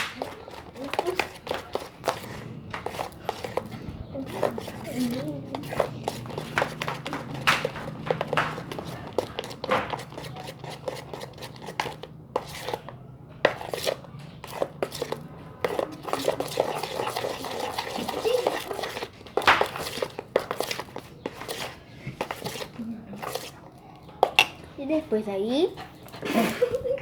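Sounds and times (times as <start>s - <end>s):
utensil scraping a small dish: 0.1s - 24.6s.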